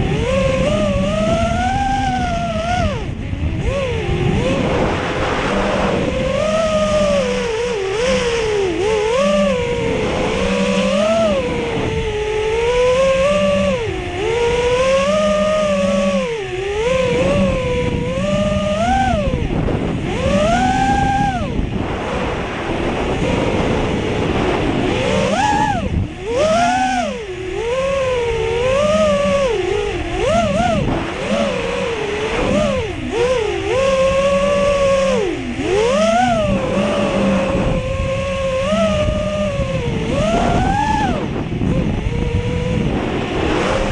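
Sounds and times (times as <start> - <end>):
drone motors and propellers whining: 0.0 - 43.9.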